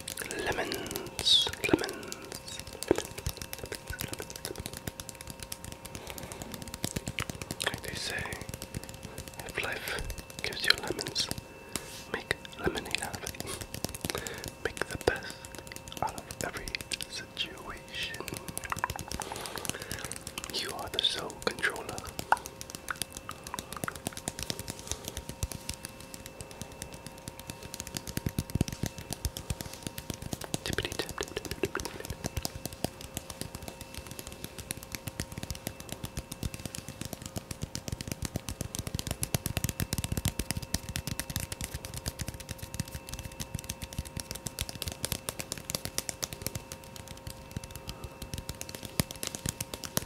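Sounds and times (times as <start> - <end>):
faint steady tone: 0.0 - 50.0
rapid hand tapping: 0.0 - 50.0.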